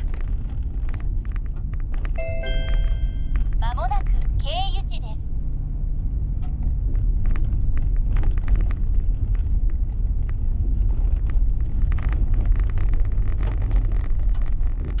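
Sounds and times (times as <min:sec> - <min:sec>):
car engine and tyres rumbling: 0:00.0 - 0:02.2, 0:03.3 - 0:15.0.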